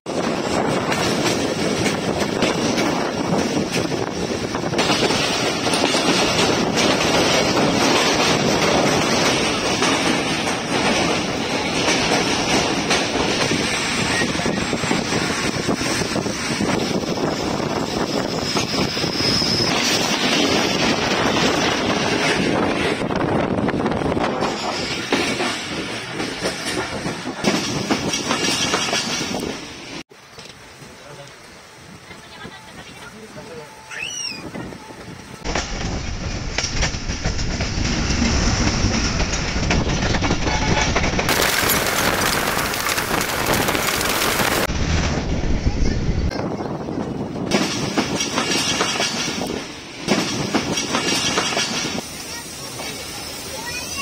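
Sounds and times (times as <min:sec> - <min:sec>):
train wheels on rails: 0:00.1 - 0:54.0.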